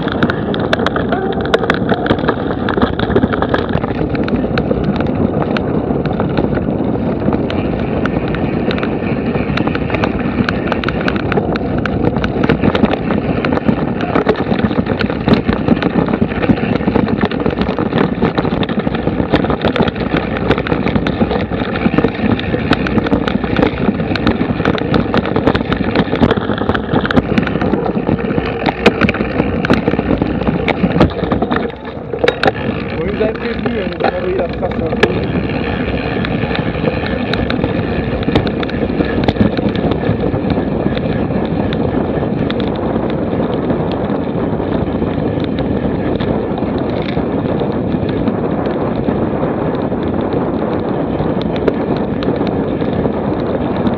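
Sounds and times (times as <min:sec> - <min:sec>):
bike rattling and knocking: 0:00.0 - 0:53.9
bike tyres rumbling over dirt: 0:00.0 - 0:53.9.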